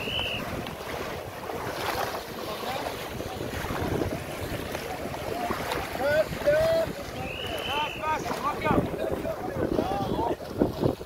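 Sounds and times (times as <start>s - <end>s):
legs wading through water: 0.0s - 11.0s
water splashing: 0.0s - 11.0s
wind rumbling on microphone: 0.0s - 11.0s.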